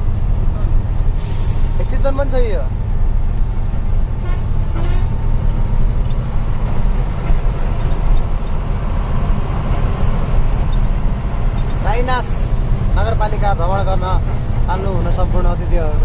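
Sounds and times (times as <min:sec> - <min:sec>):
truck engine running: 0:00.0 - 0:15.6
road rumble: 0:00.0 - 0:16.0.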